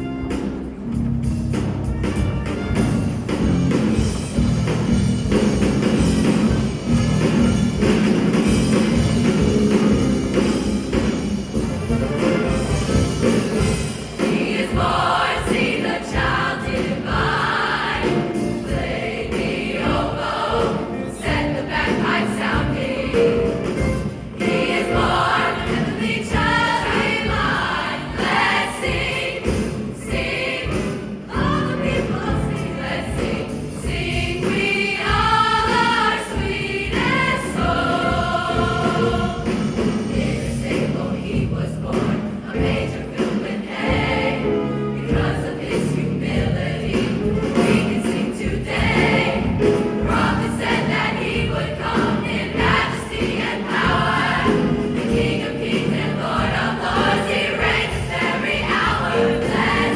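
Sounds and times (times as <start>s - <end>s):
choir singing with accompaniment: 0.0s - 59.9s.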